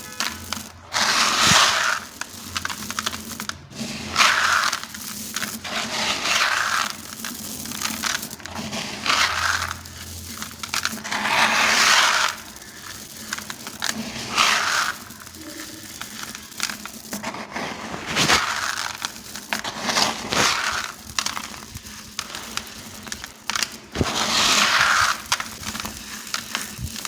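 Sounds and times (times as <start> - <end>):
blocks crushing and crumbling: 0.0 - 27.0
grit crackling: 0.0 - 27.0.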